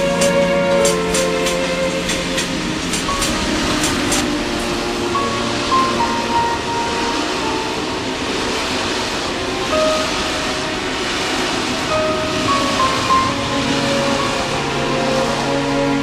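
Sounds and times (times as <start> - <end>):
music of long held notes: 0.0 - 16.0
train wheels rushing on rails: 0.0 - 16.0.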